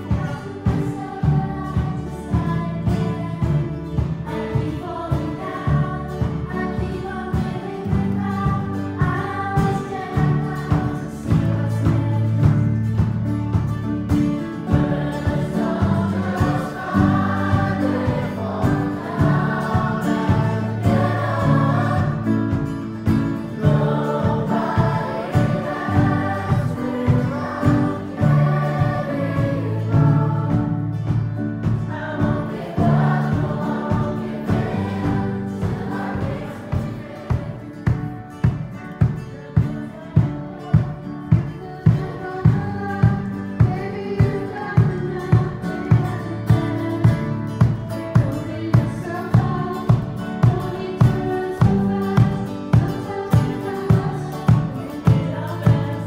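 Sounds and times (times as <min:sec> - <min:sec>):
children's choir singing: 0:00.0 - 0:56.0
guitar: 0:00.0 - 0:56.0
keyboard: 0:00.0 - 0:56.0.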